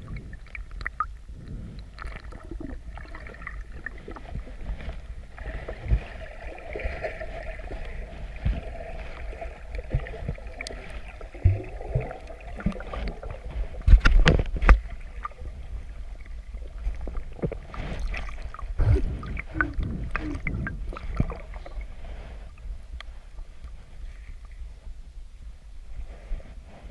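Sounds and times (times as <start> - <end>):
water splashing around boat: 0.0 - 24.1.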